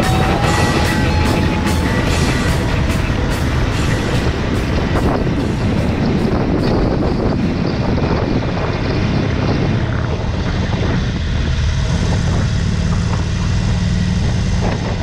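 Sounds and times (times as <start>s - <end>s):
motorcycle engine cruising: 0.0s - 15.0s
wind on microphone: 0.0s - 15.0s.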